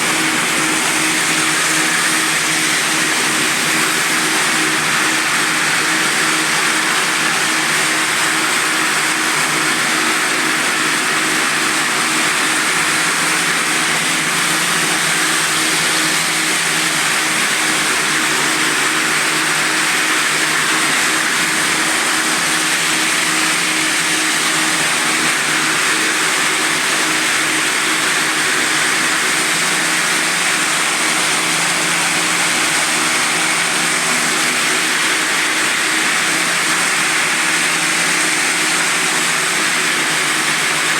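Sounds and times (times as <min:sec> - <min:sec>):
floor sanding machine grinding: 0:00.0 - 0:40.9.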